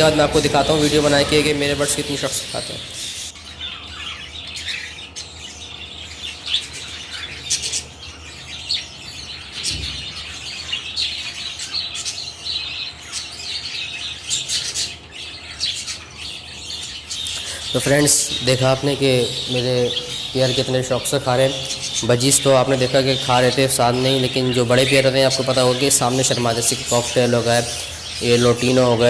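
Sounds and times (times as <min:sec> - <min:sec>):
parrots chirping: 0:00.0 - 0:29.0.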